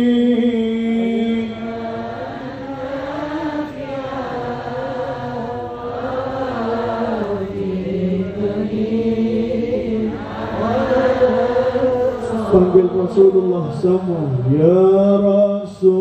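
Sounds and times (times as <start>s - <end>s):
men singing into microphones: 0.0s - 16.0s.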